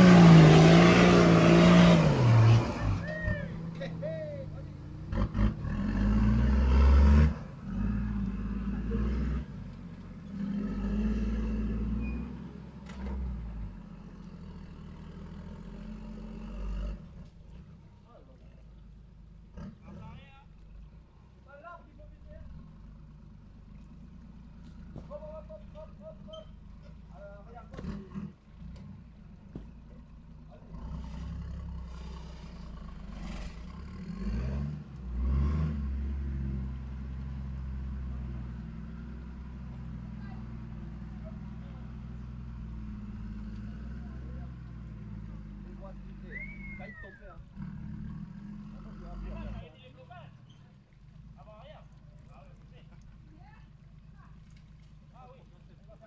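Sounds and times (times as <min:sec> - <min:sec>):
diesel engine revving: 0:00.0 - 0:54.4.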